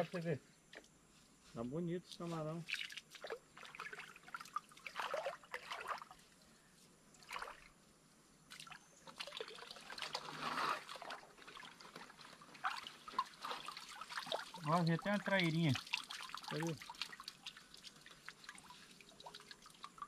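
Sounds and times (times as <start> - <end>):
shallow water trickling and splashing: 2.1 - 7.8, 8.5 - 20.0.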